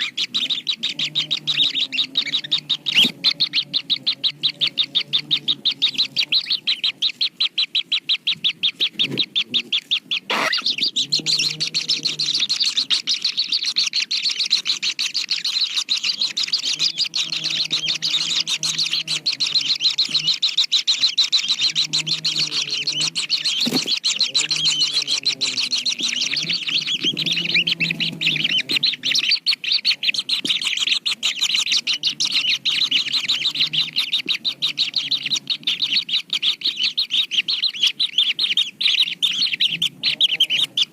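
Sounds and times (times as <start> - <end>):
chicks chirping rapidly: 0.0 - 40.9.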